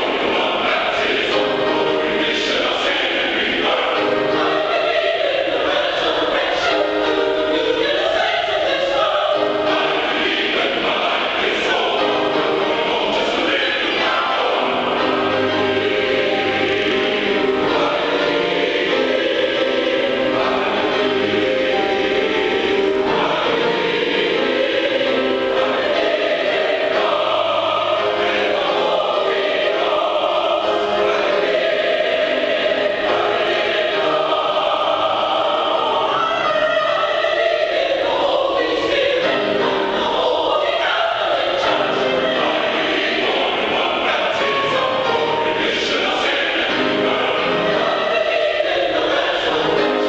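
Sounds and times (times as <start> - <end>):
gospel choir singing: 0.0 - 50.0
piano accompaniment: 0.0 - 50.0.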